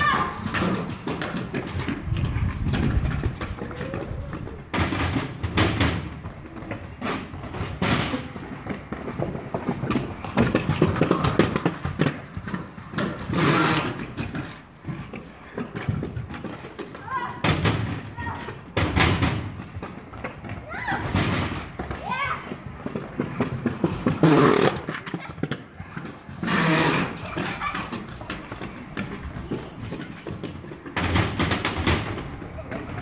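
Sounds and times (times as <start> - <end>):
scooter wheels rolling on concrete: 0.0 - 33.0.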